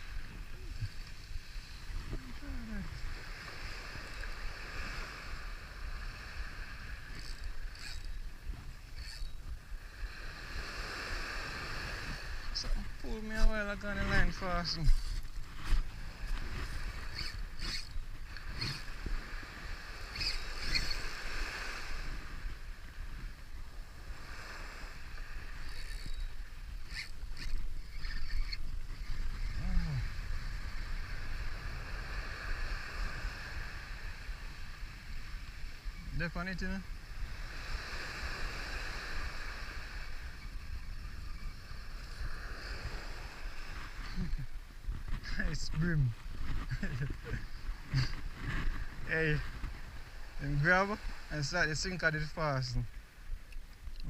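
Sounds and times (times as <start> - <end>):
faint outdoor hiss: 0.0 - 54.0
wind rumbling on microphone: 0.0 - 54.0.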